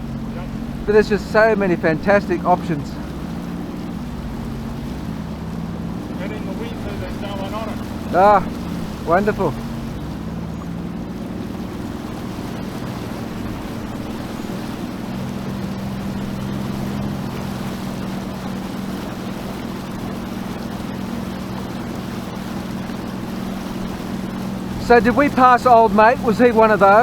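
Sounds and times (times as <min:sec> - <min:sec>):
jet ski engine running: 0:00.0 - 0:27.0
water rushing: 0:00.0 - 0:27.0.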